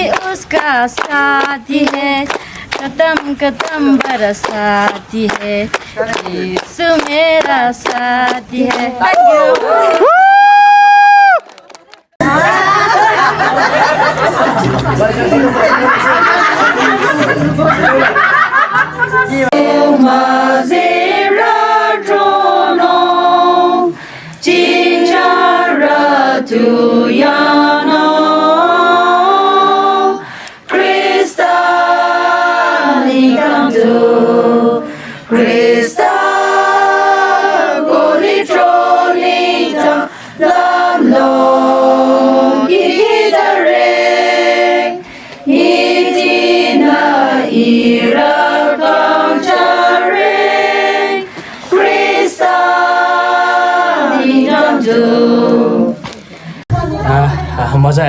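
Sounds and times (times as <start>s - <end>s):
group singing a hymn: 0.0s - 9.4s, 12.2s - 58.0s.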